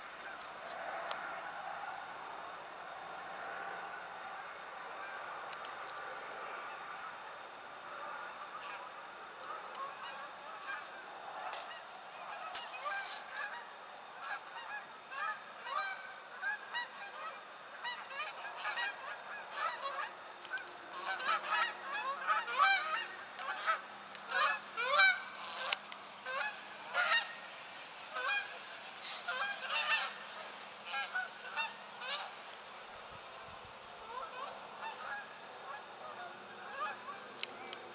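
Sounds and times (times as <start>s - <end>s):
geese honking: 0.0s - 37.9s.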